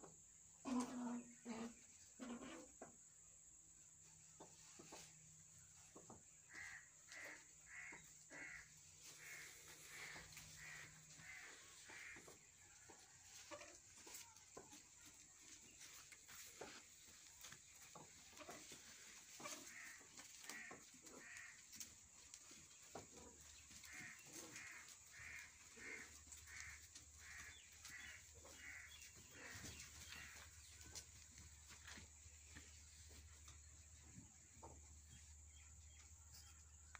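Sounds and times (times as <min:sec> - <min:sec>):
faint bird calls: 0:05.7 - 0:21.9, 0:22.6 - 0:36.9.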